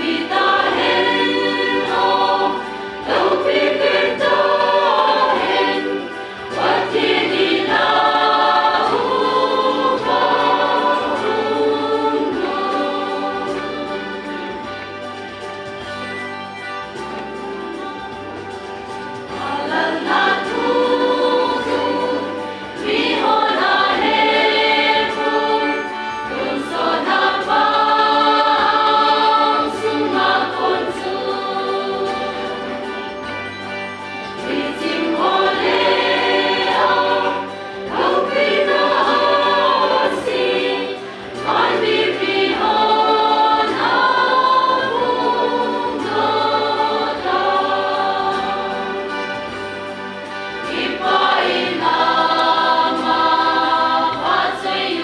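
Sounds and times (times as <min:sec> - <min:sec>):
choir singing: 0:00.0 - 0:15.2, 0:19.2 - 0:55.0.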